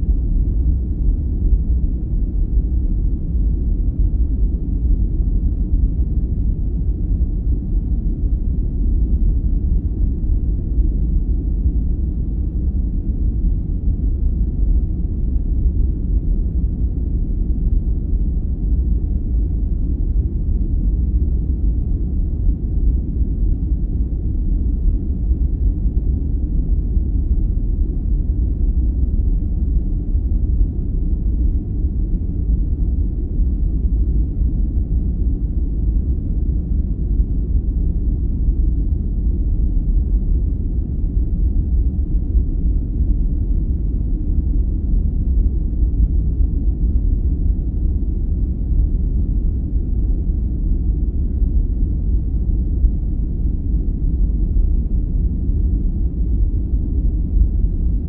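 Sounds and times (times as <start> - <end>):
low brown noise rumble: 0.0 - 58.0.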